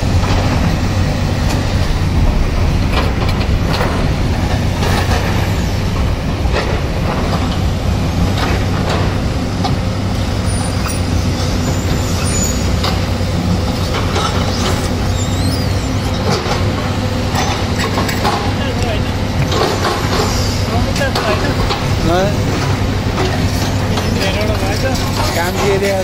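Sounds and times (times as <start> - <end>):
excavator diesel engines: 0.0 - 26.0
truck passing: 0.0 - 26.0.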